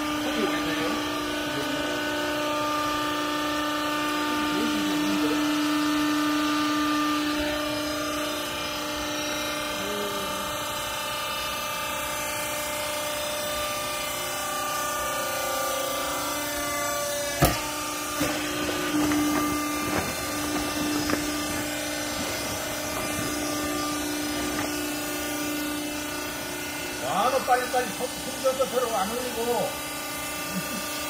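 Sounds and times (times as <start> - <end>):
baler machine humming: 0.0 - 31.0.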